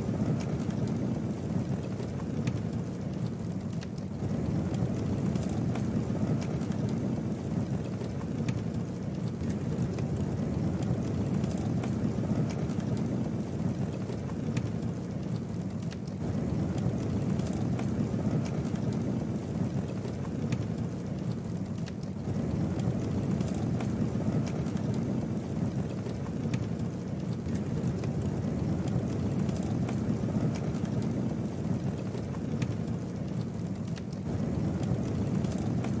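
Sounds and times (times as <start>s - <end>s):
flames rushing: 0.0s - 36.0s
wood crackling and popping: 0.0s - 36.0s.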